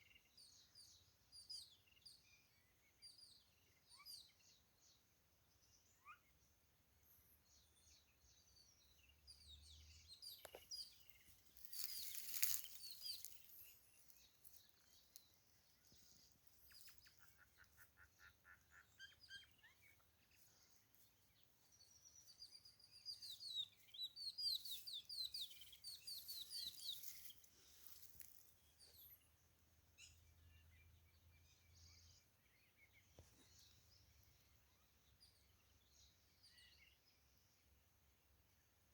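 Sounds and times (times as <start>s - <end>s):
faint birds chirping: 0.0s - 38.9s.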